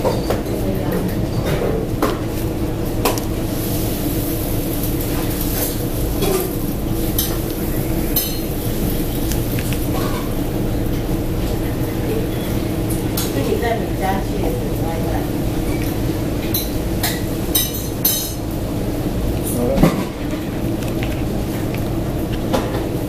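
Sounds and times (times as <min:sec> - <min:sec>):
steady kitchen hum: 0:00.0 - 0:23.0.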